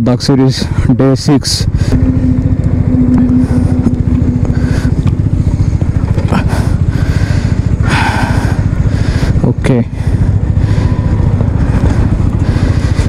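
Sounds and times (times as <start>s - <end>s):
motorcycle engine idling: 0.0s - 13.0s
steady hum: 0.0s - 13.0s.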